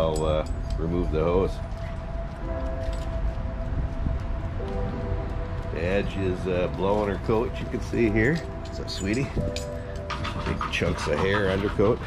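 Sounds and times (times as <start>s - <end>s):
held musical tones: 0.0s - 12.0s.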